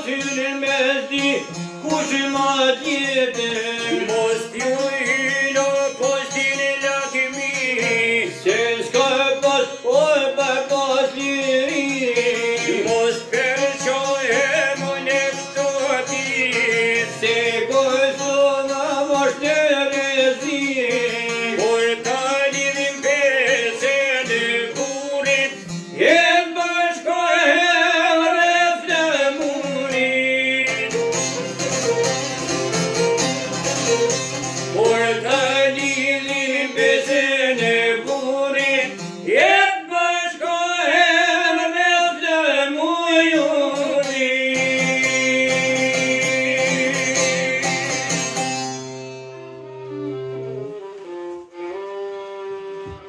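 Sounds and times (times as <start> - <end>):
man singing: 0.0 - 31.5, 33.9 - 48.5
plucked lute: 0.0 - 53.0
violin: 0.0 - 53.0.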